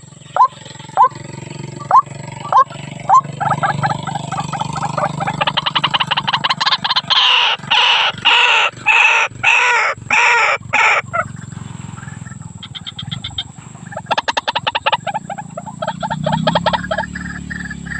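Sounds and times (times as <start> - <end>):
waterhen calling: 0.0 - 17.9.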